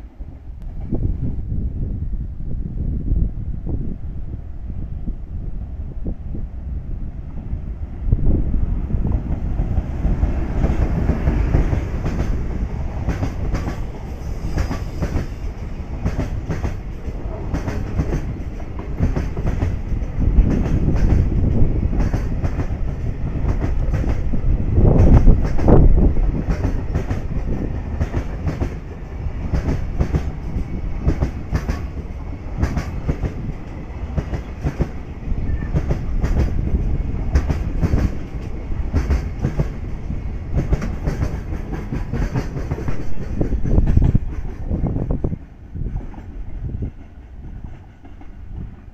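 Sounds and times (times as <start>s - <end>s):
electric locomotive passing: 0.0s - 48.9s
train wheels rumbling: 0.0s - 48.9s
clickety-clack over rail joints: 9.0s - 48.9s.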